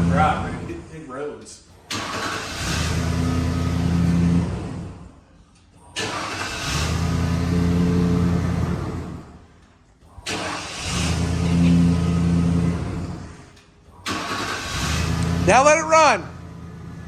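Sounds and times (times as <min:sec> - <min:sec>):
truck engine cranking and starting: 0:00.0 - 0:17.0.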